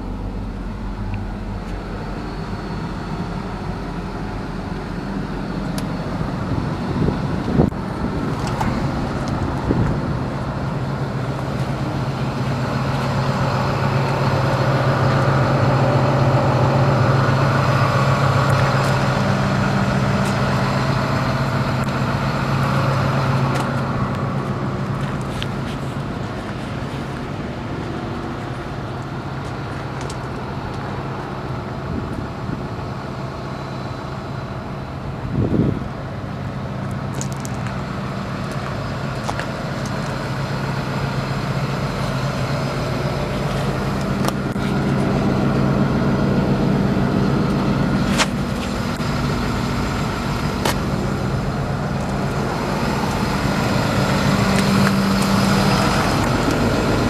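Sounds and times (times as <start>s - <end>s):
excavator diesel engine idling: 0.0s - 57.0s.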